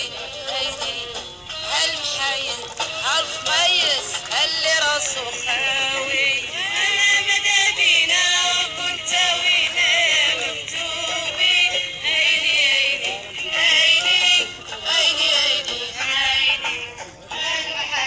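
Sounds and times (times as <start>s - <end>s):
processed ornamented singing voice: 0.0s - 18.0s.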